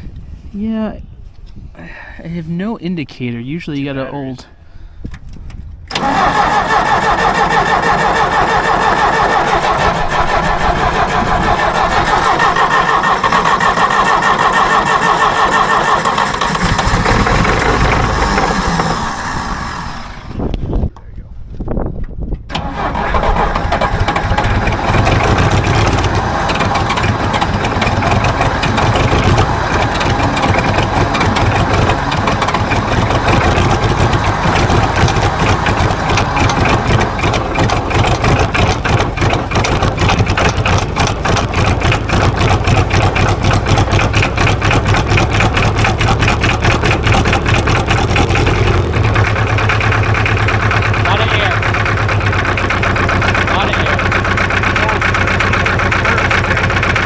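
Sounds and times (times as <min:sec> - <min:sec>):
diesel engine idling: 0:05.9 - 0:20.6, 0:22.5 - 0:57.0.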